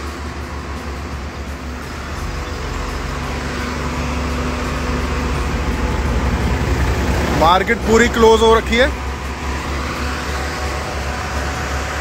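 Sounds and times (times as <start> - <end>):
deep engine rumble: 0.0 - 12.0
vehicle engine and road noise: 0.0 - 12.0.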